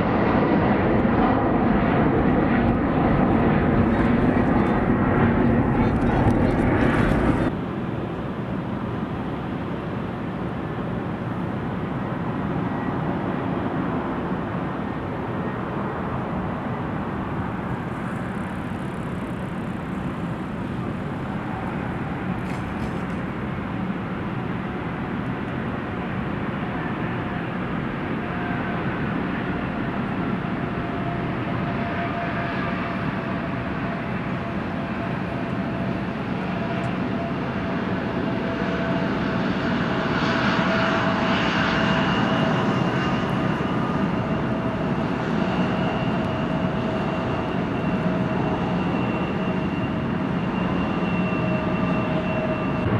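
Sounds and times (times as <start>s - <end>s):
airliner engines rushing: 0.0s - 52.9s.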